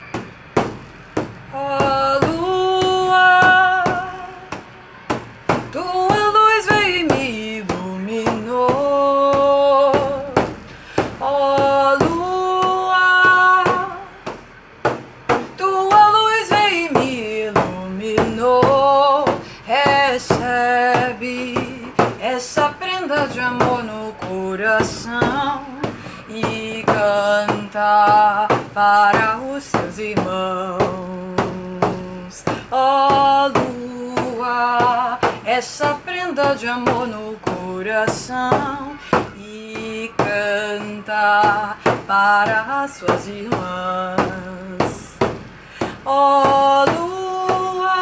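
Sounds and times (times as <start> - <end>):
sharp percussive taps: 0.0 - 47.9
person singing long held notes: 1.5 - 48.0.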